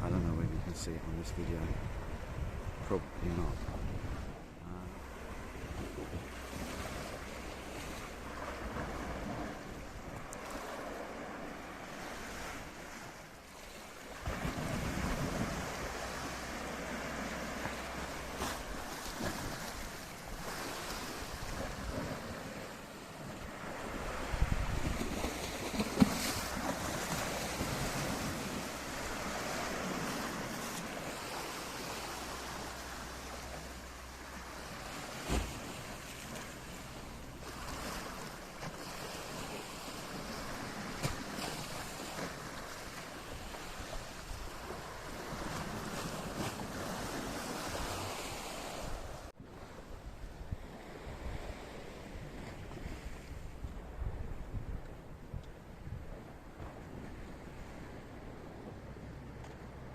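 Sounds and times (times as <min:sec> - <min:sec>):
wind buffeting microphone: 0:00.0 - 0:13.3, 0:14.2 - 0:59.9
sea waves breaking on shore: 0:00.0 - 0:59.9.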